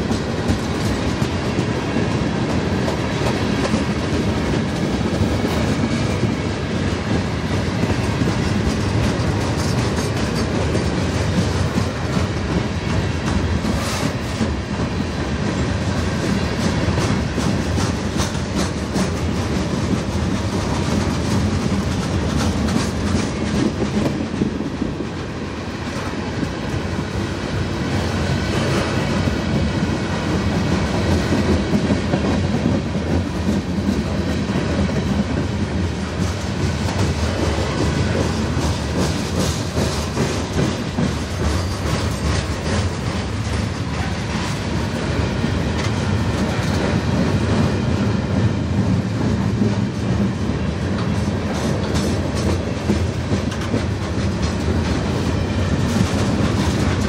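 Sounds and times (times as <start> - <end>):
wheels clicking over rail joints: 0.0 - 25.1, 25.8 - 47.7, 50.9 - 57.0
train wheels rumbling on rail: 0.0 - 57.0.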